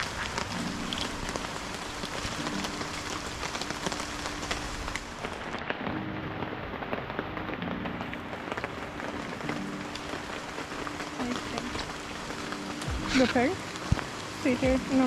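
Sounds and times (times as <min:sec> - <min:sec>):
rain falling: 0:00.0 - 0:15.0
raindrops striking close by: 0:00.0 - 0:15.0.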